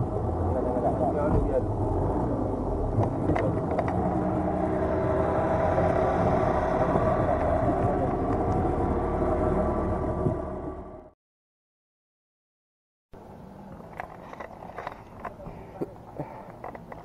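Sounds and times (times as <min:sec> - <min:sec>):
wind: 0:00.0 - 0:11.2, 0:13.1 - 0:17.0.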